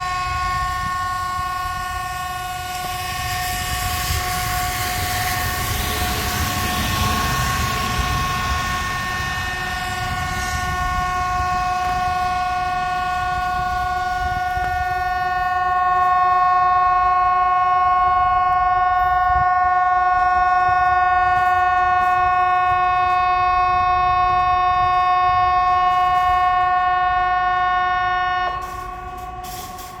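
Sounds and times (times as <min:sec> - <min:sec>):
two-note siren tone: 0:00.0 - 0:30.0.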